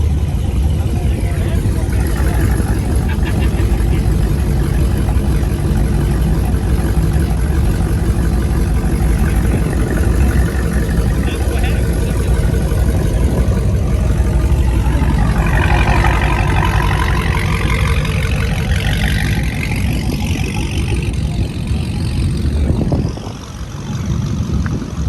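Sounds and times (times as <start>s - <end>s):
car engine rumbling: 0.0s - 25.0s
high engine whine: 0.0s - 25.0s.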